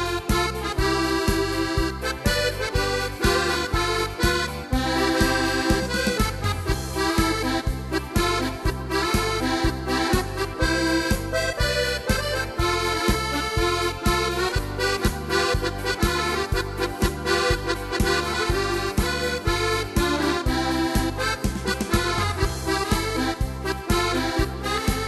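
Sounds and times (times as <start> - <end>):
keyboard accompaniment beat with bass: 0.0 - 25.0
keyboard accordion melody: 0.0 - 25.0.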